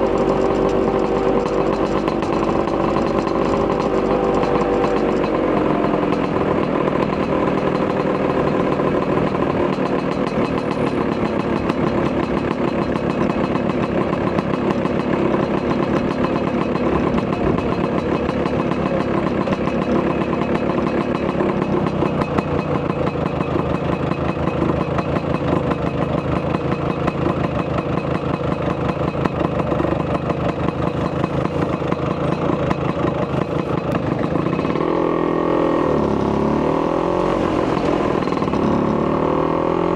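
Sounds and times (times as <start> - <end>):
scooter engine exhaust beat: 0.0 - 39.9.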